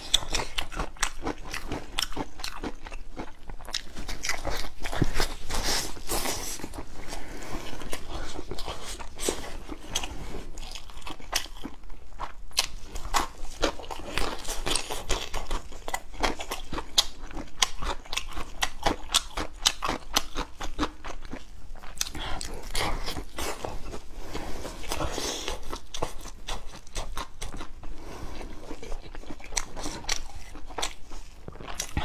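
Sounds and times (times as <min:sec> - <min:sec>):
person chewing meat: 0:00.0 - 0:32.0.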